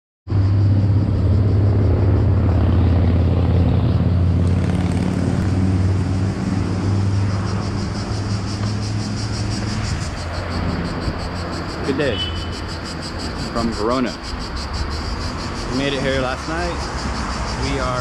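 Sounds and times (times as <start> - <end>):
vehicle engine droning: 0.3 - 18.0.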